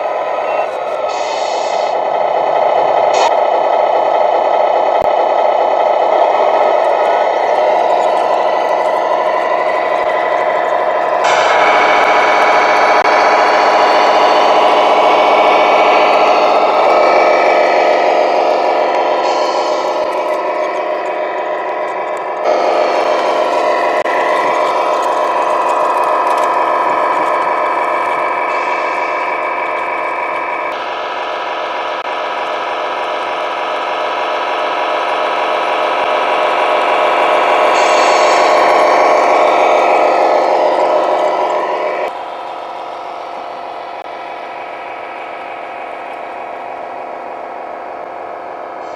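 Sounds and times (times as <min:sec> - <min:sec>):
simulated truck engine from speaker: 0:00.0 - 0:48.9.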